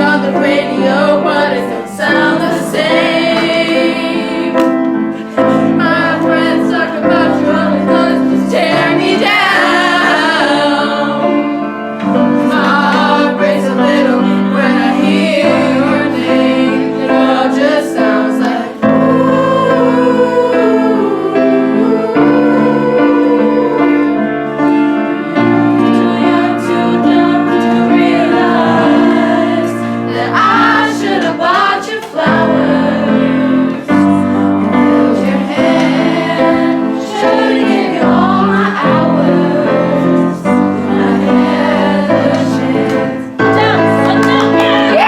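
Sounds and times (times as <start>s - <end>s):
choir singing: 0.0s - 45.0s
piano accompaniment: 0.0s - 45.0s.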